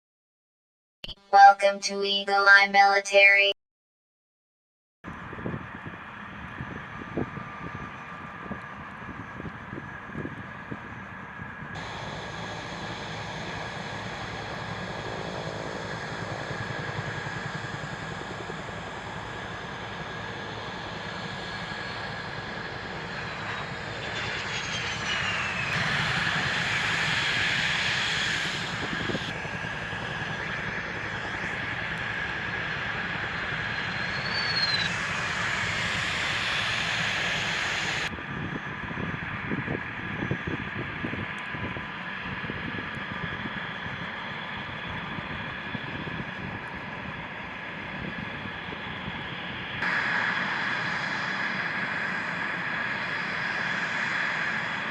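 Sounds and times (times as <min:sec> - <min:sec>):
jet engines hissing and whining: 0:05.2 - 0:54.9.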